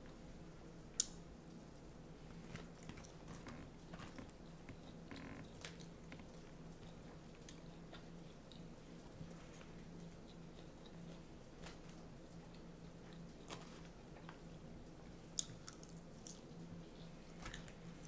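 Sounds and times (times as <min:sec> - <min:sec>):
low steady hum: 0:00.0 - 0:18.0
chewing and crunching salad: 0:01.0 - 0:18.0.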